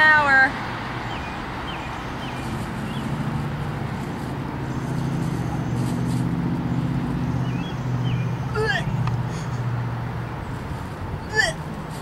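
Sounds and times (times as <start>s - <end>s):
car engine running: 1.8s - 12.0s.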